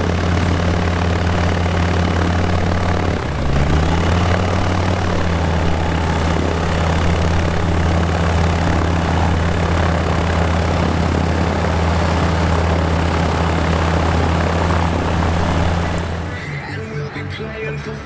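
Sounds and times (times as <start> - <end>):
propeller engine idling: 0.0 - 18.0.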